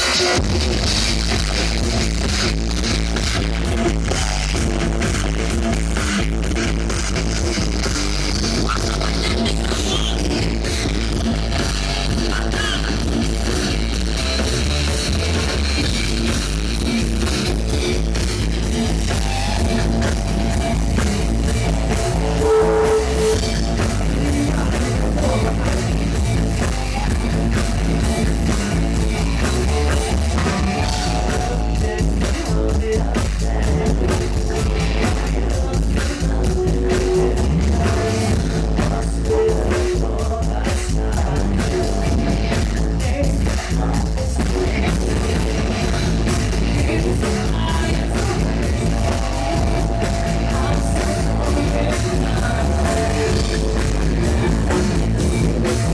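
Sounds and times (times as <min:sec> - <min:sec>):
bass guitar: 0:00.0 - 0:55.9
drum kit: 0:00.0 - 0:55.9
electric guitar: 0:00.0 - 0:55.9.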